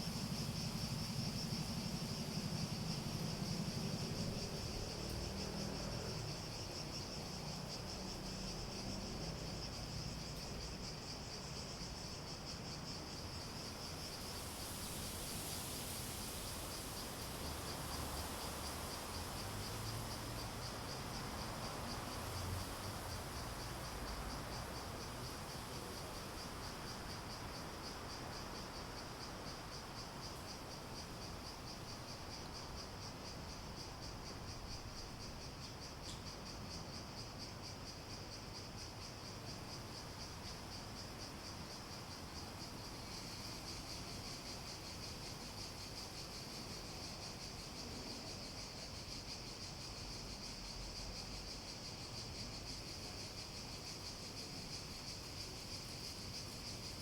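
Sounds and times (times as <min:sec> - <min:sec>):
cicadas pulsing drone: 0:00.0 - 0:57.0
higher hissing insect chorus: 0:00.0 - 0:57.0.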